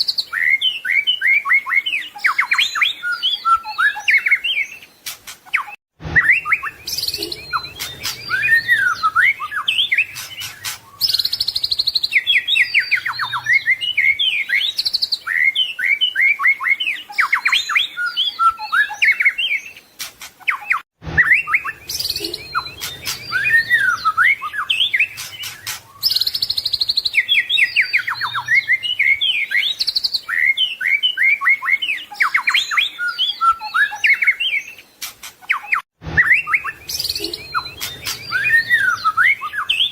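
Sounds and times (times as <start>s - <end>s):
songbird whistling and trilling: 0.0s - 39.9s.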